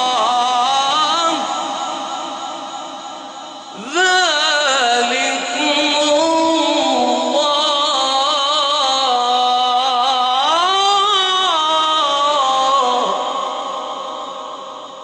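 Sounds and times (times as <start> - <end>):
man chanting melodic recitation: 0.0 - 1.8, 3.7 - 14.8.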